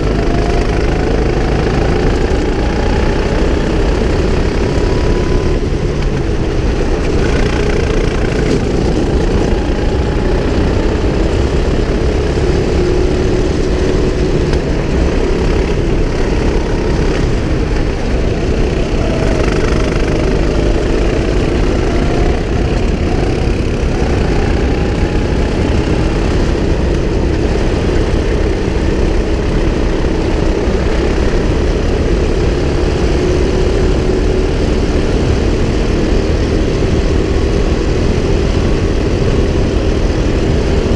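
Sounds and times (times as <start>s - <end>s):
kart engine running: 0.0s - 40.9s
wind rumble: 0.0s - 40.9s.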